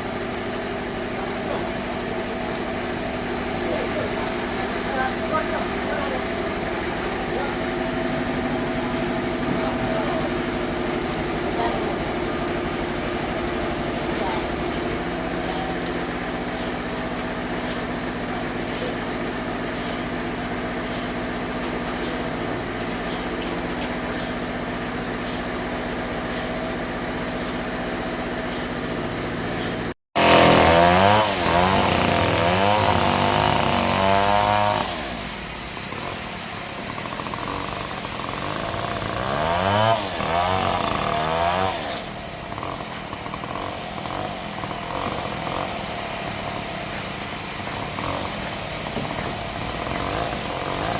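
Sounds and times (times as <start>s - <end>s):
bandsaw humming: 0.0s - 50.9s
bandsaw whine sawing wood: 0.0s - 50.9s.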